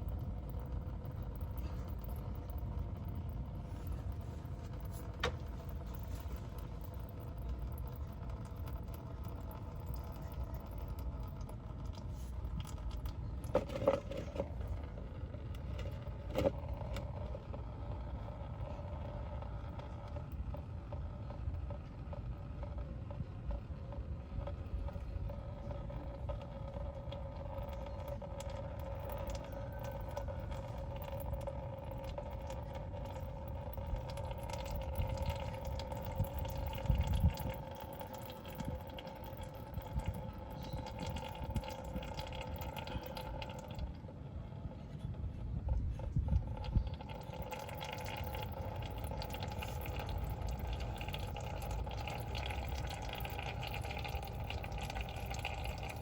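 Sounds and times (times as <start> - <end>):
liquid running into container: 0.0 - 21.8, 24.3 - 44.2, 45.1 - 56.0.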